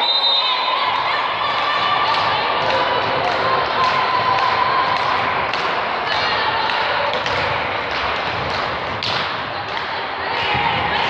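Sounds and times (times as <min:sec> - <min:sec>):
echoing gym hubbub: 0:00.0 - 0:11.0.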